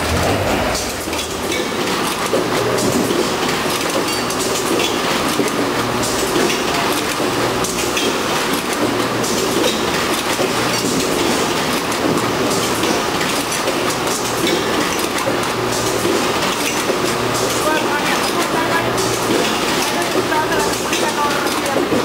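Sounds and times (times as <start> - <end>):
machinery rattling: 0.0 - 22.0.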